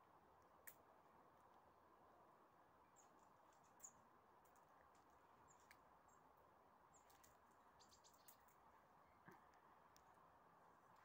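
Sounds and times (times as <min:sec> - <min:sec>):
songbird chirps: 0:00.0 - 0:11.0.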